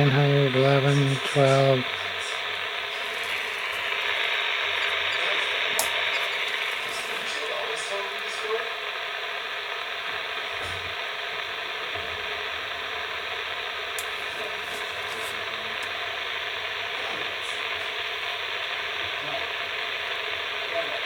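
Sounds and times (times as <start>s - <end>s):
radio static hissing: 0.0s - 21.0s.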